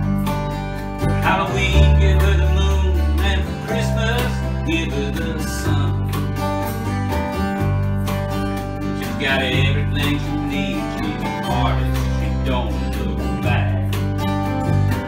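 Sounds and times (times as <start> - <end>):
electric bass line: 0.0 - 15.0
slide dobro: 0.0 - 15.0
strummed acoustic guitar: 0.0 - 15.0.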